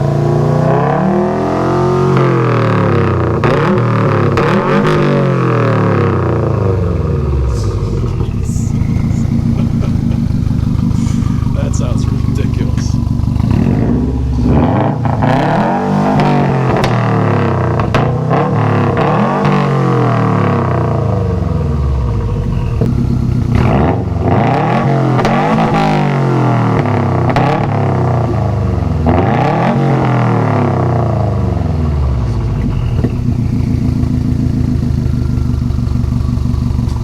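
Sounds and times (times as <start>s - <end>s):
car engine revving and idling: 0.0s - 37.0s.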